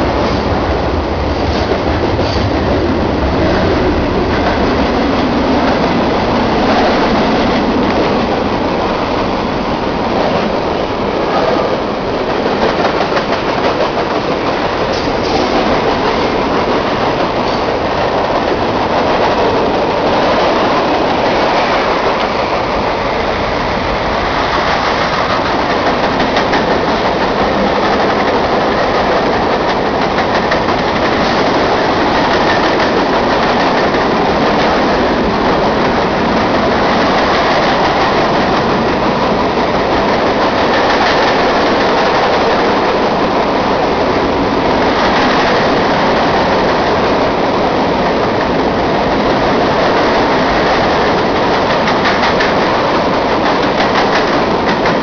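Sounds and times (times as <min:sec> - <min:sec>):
clickety-clack of rails: 0:00.0 - 0:55.0
train wheels rumbling on rails: 0:00.0 - 0:55.0.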